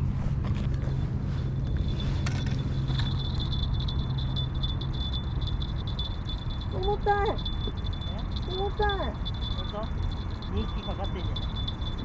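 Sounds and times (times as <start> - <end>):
low hum: 0.0 - 12.0
fishing reel clinking: 1.6 - 12.0.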